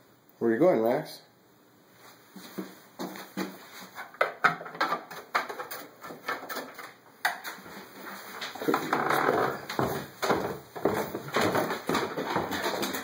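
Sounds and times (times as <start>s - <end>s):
footsteps on stairs: 2.3s - 13.0s.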